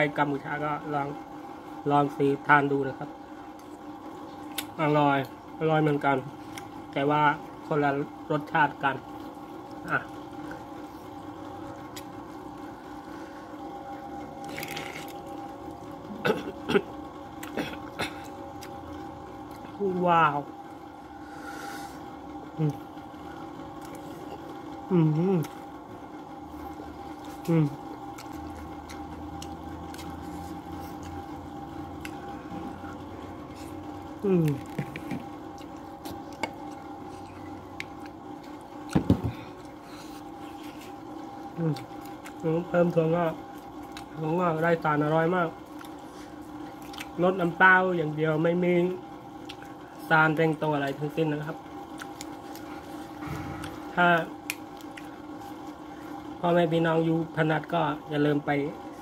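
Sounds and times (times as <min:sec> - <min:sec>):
faint steady hum: 0:00.0 - 0:59.0
man chewing noodles: 0:03.4 - 0:56.7.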